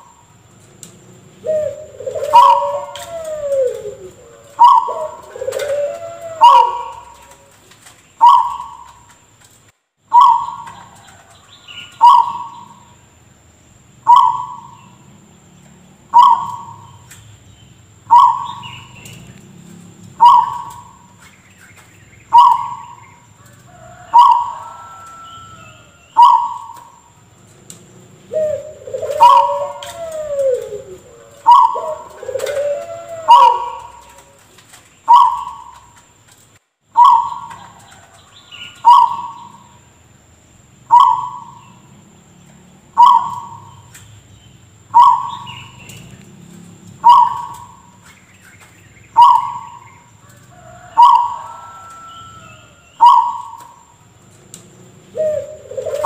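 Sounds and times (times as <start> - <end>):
gliding bird calls: 0.0 - 9.3, 10.0 - 13.1, 14.0 - 15.2, 16.0 - 36.2, 36.9 - 39.9, 40.8 - 56.0.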